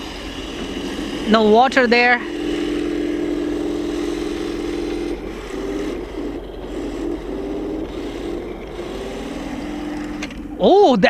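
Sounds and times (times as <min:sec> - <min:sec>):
simulated tank engine hum: 0:00.0 - 0:11.0.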